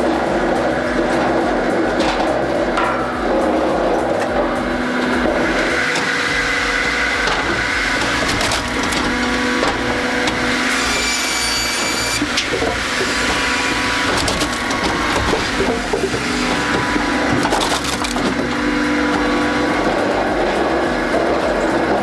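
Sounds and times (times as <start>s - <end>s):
firewood processor sawing and splitting logs: 0.0s - 22.0s
high whine: 0.0s - 22.0s.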